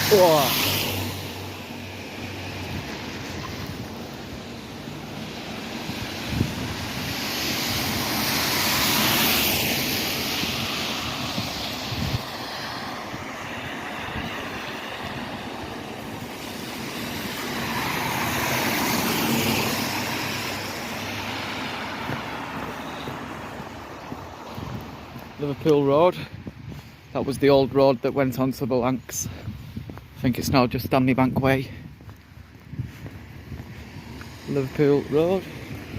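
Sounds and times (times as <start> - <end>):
vehicles passing: 0.0 - 35.9.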